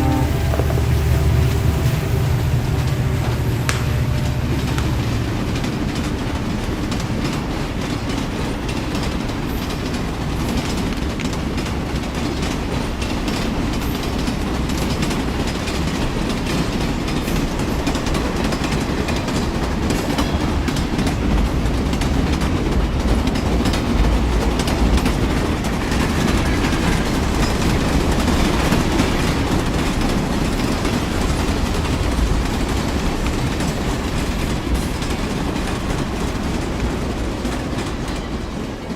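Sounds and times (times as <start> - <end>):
model train rumbling on track: 0.0 - 38.9
wheels clicking over rail joints: 0.0 - 38.9.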